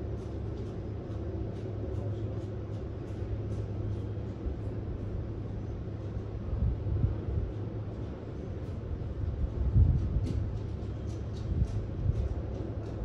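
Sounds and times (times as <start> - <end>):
ship engines low hum: 0.0 - 13.0.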